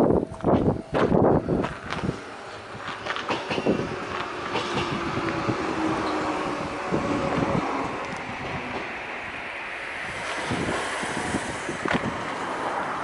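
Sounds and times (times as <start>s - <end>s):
electric train rumbling past: 0.0s - 13.0s.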